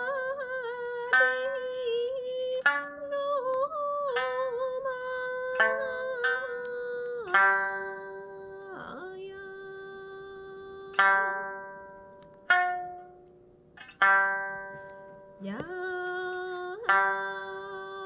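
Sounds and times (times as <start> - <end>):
plucked string notes: 0.0 - 18.0.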